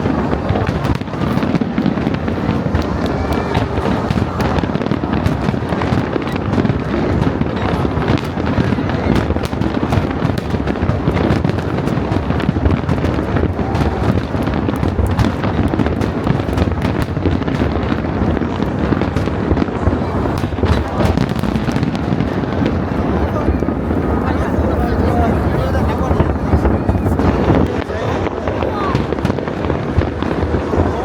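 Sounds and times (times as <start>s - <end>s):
fireworks bangs and crackling: 0.0s - 31.0s
people's voices: 0.0s - 31.0s.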